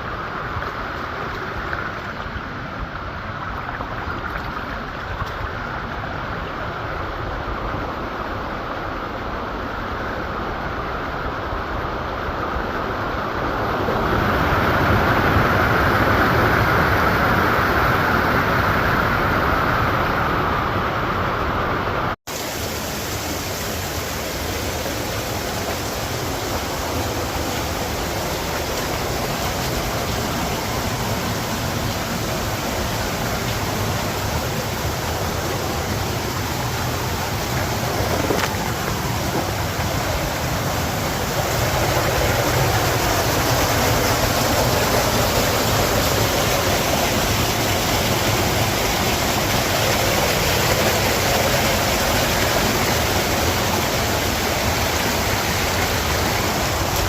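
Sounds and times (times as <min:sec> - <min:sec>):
waterfall pouring and splashing: 0:00.0 - 0:57.0.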